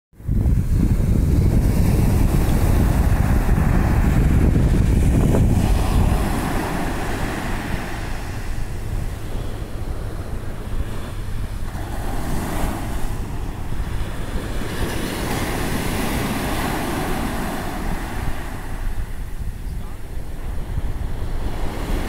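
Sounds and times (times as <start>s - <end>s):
waves breaking on a beach: 0.2s - 22.0s
wind rumbling on microphone: 0.2s - 22.0s.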